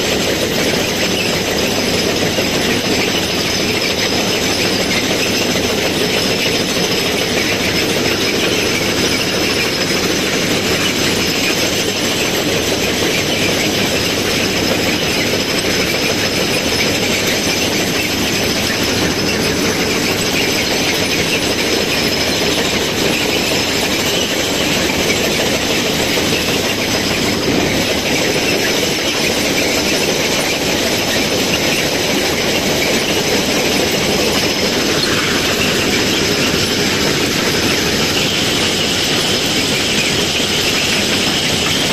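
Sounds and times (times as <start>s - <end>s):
ballast cleaning machine running: 0.0s - 41.9s
machine churning ballast stones: 0.0s - 41.9s.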